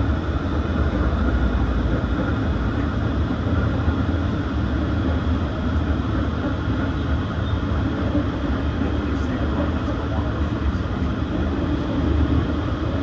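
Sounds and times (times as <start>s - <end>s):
streetcar wheels rumbling on rails: 0.0s - 13.0s.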